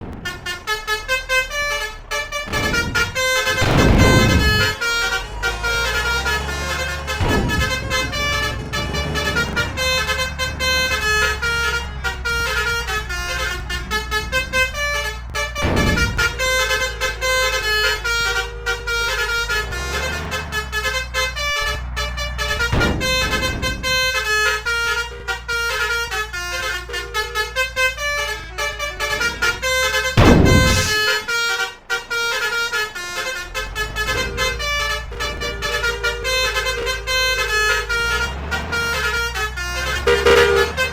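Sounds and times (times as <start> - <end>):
bus engines humming: 0.0 - 40.9
musical bus horns: 0.0 - 40.9.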